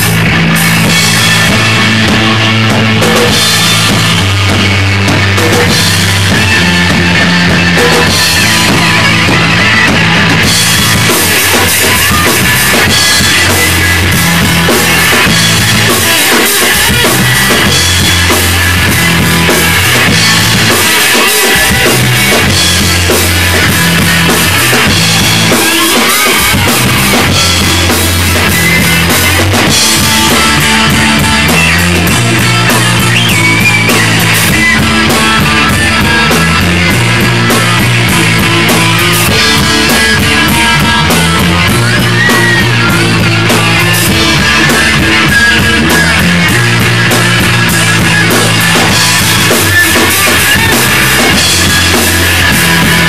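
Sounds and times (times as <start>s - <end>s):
bass guitar: 0.0s - 53.0s
drum kit with cymbals: 0.0s - 53.0s
electric guitars: 0.0s - 53.0s.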